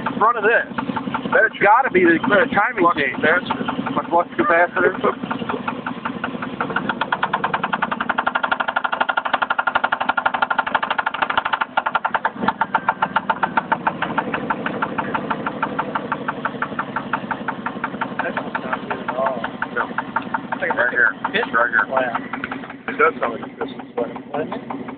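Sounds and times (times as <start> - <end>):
engine idling: 0.0 - 24.9
rapid engine knock: 0.0 - 24.9.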